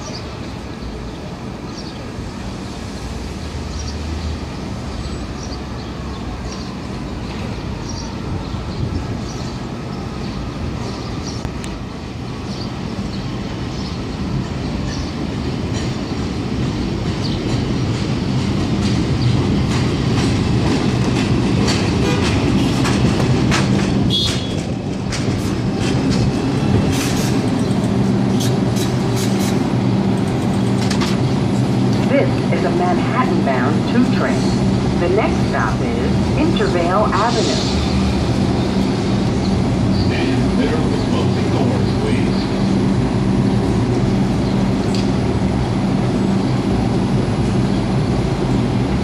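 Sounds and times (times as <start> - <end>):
subway train rumble: 0.0 - 49.0.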